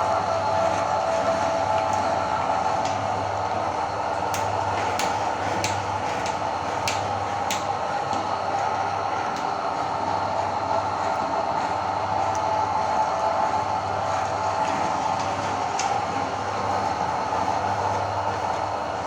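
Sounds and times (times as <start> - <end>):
meat grinder motor running: 0.0 - 19.0.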